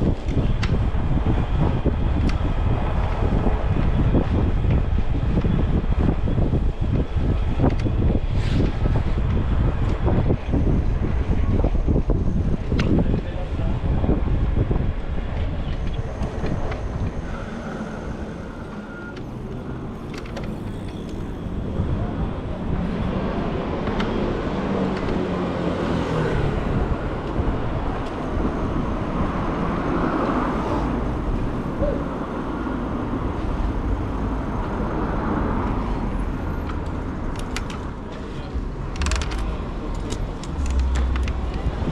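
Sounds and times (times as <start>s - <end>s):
vehicles passing on street: 0.0s - 41.9s
wind rumbling on microphone: 0.0s - 41.9s.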